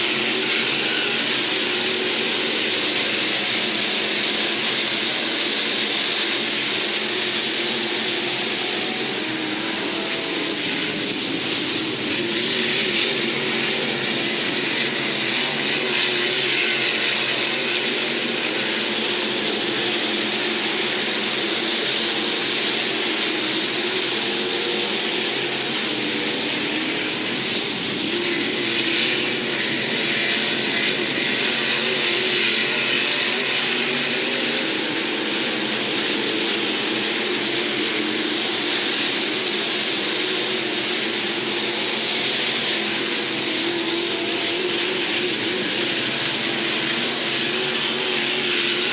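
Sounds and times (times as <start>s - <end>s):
race car engines: 0.0s - 48.9s.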